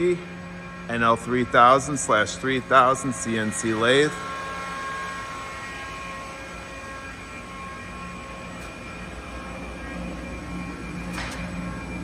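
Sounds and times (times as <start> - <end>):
lathe machine hum: 0.0 - 12.0
thin whining tones: 0.0 - 12.0.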